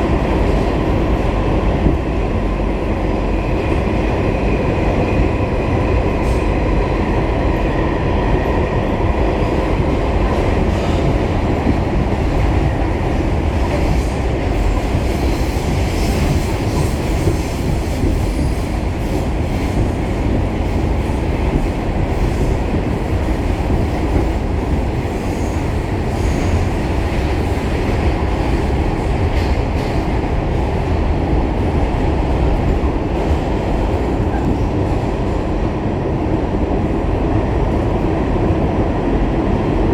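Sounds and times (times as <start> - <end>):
subway car wheels rumbling on rails: 0.0 - 39.9.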